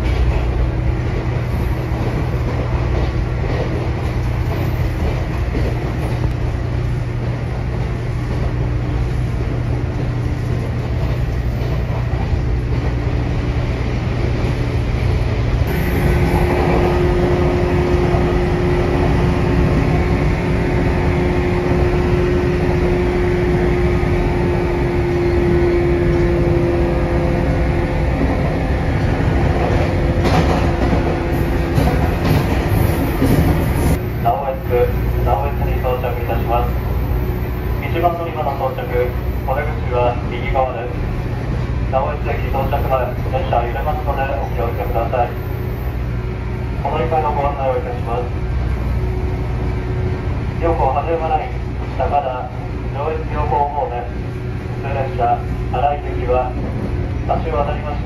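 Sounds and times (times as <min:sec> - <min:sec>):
train cabin rumble: 0:00.0 - 0:58.0
train motor hum: 0:00.0 - 0:58.0.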